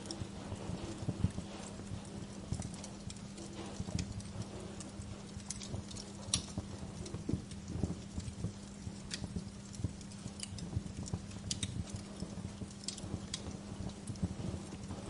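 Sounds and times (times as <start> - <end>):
burning logs popping and snapping: 0.0 - 15.0
low rumble of flames: 0.0 - 15.0.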